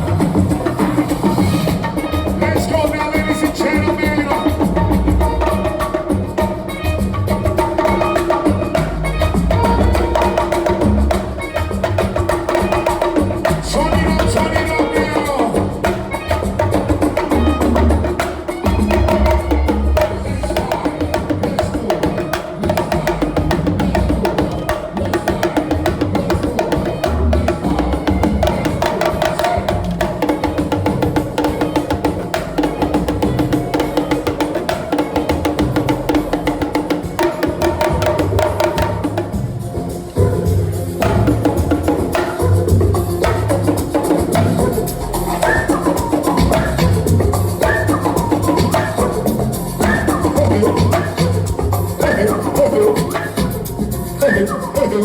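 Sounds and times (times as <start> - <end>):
loud music with fast percussion: 0.0 - 55.0.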